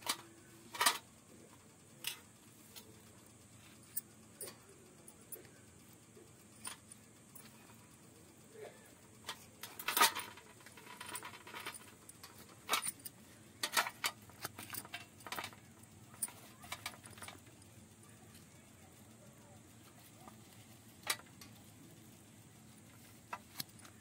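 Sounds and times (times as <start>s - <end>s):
metallic clinks: 1.9s - 24.0s.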